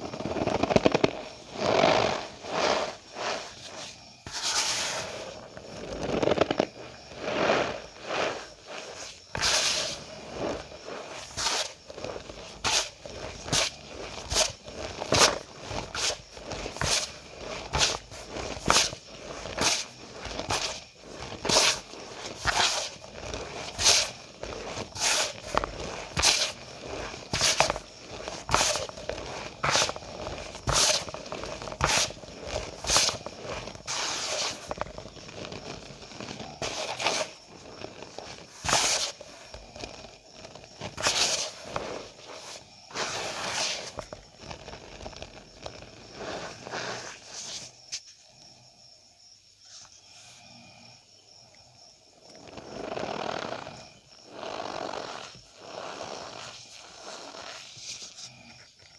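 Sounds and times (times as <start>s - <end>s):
cornstarch squeaking and crunching: 0.0s - 47.8s, 52.3s - 58.5s.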